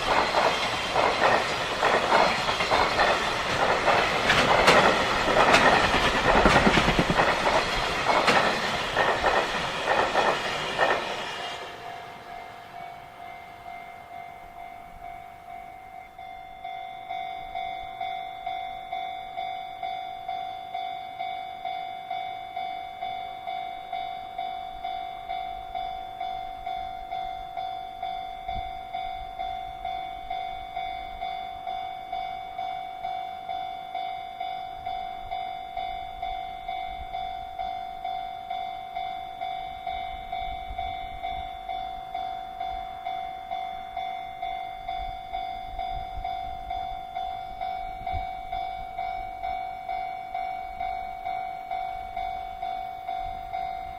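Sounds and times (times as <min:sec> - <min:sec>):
faint low railway rumble: 0:00.0 - 0:53.9
level-crossing warning bell: 0:00.0 - 0:53.9.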